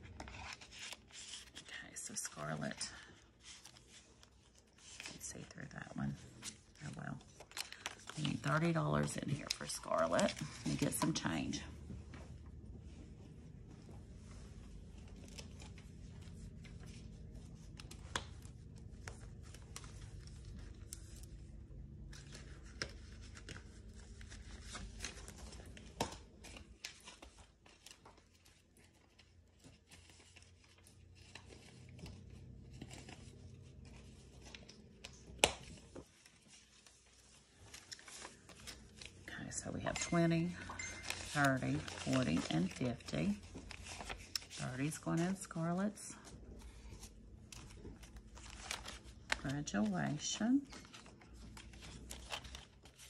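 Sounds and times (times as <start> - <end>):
paper money rustling: 0.0 - 11.7, 13.5 - 53.0.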